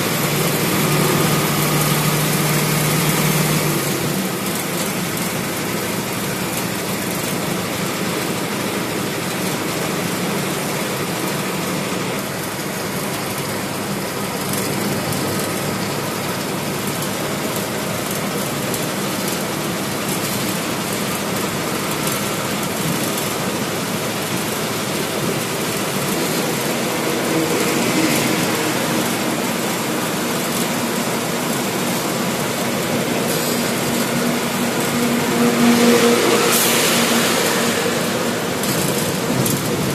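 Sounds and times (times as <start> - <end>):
coach engine drone: 0.0 - 39.9
tyre and road noise: 0.0 - 39.9.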